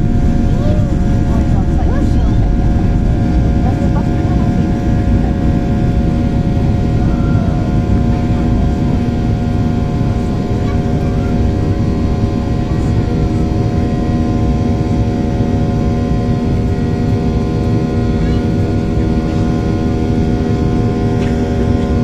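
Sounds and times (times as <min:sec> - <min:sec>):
engine and airflow drone: 0:00.0 - 0:22.0.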